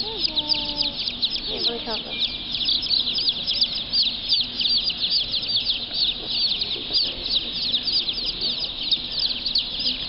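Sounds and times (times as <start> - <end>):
baby chicks peeping: 0.0 - 10.0.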